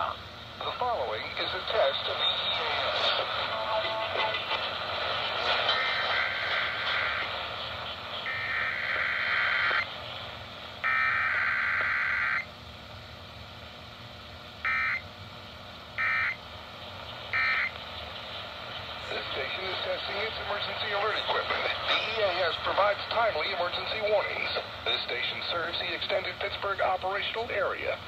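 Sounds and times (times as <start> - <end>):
radio hiss: 0.0 - 12.4, 16.0 - 28.0.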